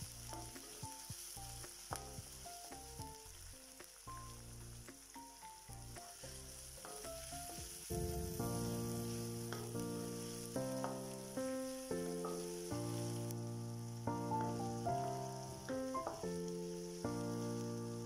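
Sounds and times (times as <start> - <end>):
soft background music: 0.0 - 18.0
spices sizzling in hot oil: 0.0 - 18.0.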